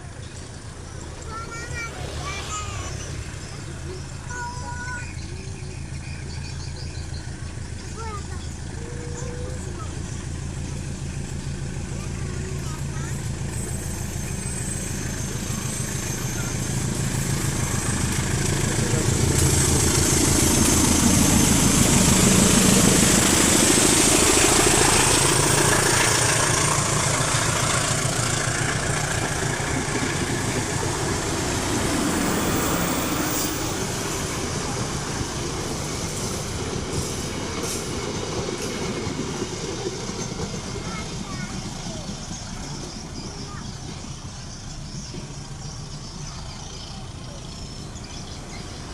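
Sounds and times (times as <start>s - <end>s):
locomotive engine passing: 0.0s - 48.9s
train wheels rolling on rails: 0.0s - 48.9s.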